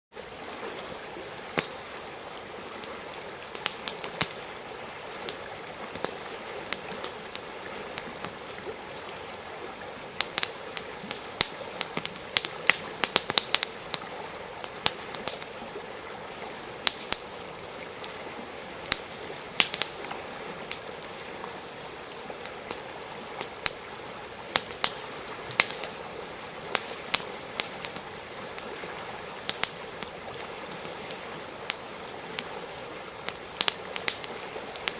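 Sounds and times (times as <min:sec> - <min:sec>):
steady rushing hiss: 0:00.1 - 0:34.9
campfire crackling and popping: 0:00.3 - 0:34.9.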